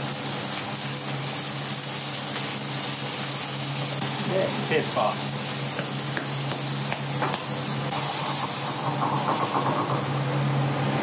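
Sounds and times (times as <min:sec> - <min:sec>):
sauce bubbling and hissing in a wok: 0:00.0 - 0:11.0.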